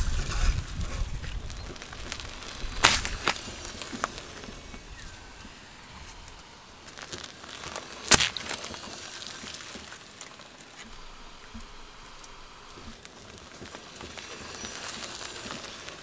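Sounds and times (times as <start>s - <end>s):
faint crackling and ticks: 0.0s - 16.0s.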